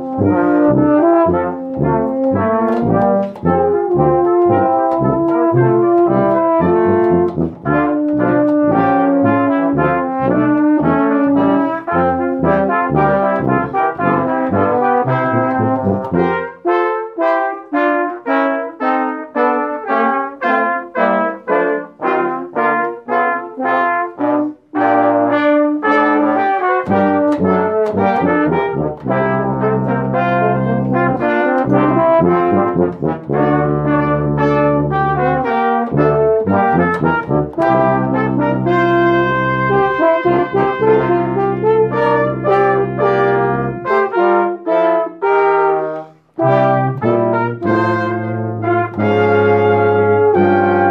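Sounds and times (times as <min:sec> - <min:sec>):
brass ensemble playing: 0:00.0 - 0:50.9.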